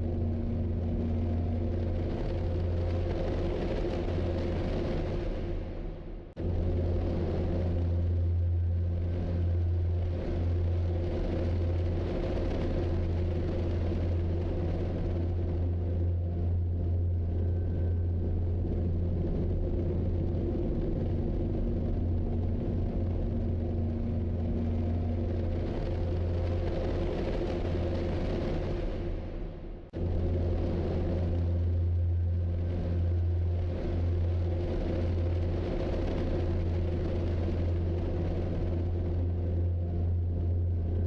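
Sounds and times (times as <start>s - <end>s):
vehicle low drone: 0.0s - 41.0s.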